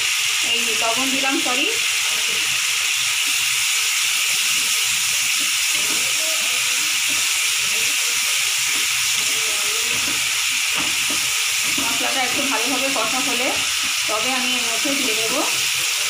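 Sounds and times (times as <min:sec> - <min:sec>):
masala sizzling in oil: 0:00.0 - 0:16.0
spatula stirring in wok: 0:01.1 - 0:16.0.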